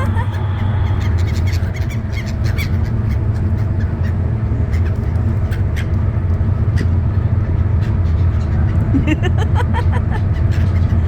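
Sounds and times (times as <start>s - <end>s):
low engine drone: 0.0s - 11.0s
seagulls squawking: 0.0s - 11.0s.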